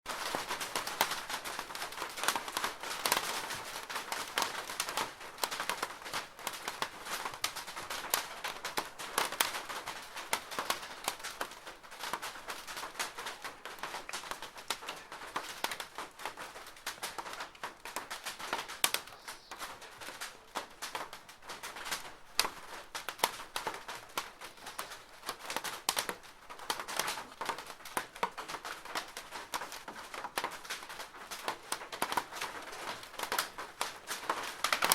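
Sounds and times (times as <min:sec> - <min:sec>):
rain pattering on plastic roof: 0:00.0 - 0:34.9.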